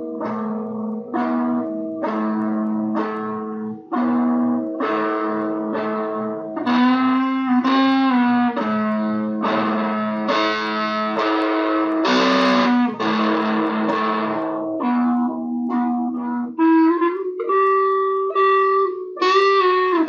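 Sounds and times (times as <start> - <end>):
rock music with electric guitar: 0.0 - 20.0.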